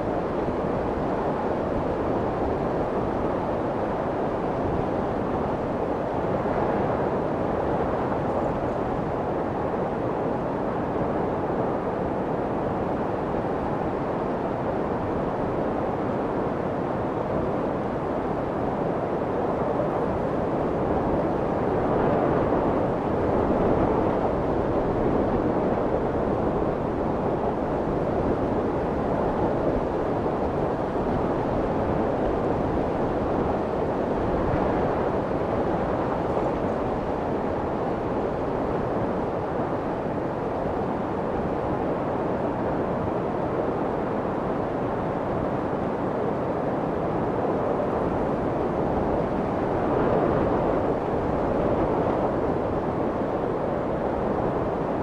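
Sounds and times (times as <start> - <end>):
muffled white noise rushing: 0.0 - 55.0.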